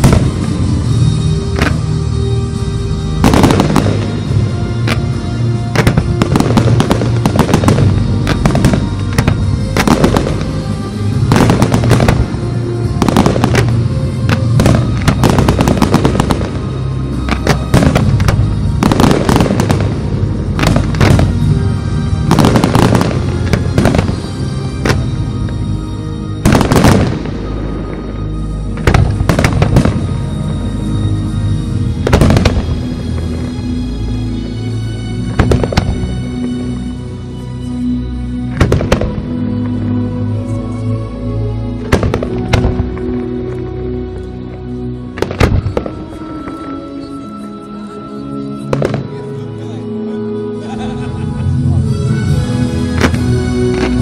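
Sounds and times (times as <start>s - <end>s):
music playing: 0.0s - 54.0s.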